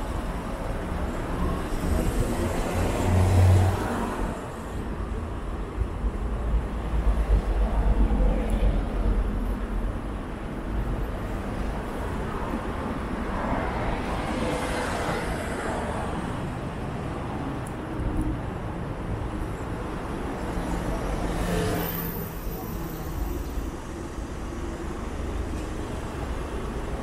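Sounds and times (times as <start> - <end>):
passing road traffic: 0.0 - 27.0.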